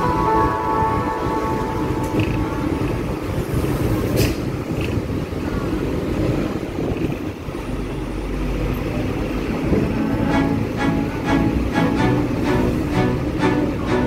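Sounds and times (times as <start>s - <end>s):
tram rumbling on tracks: 0.0s - 14.0s.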